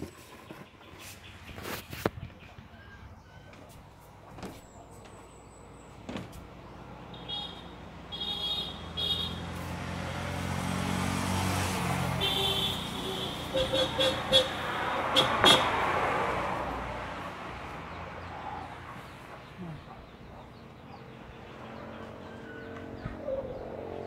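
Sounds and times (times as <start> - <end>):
motor vehicle passing: 4.0 - 24.0.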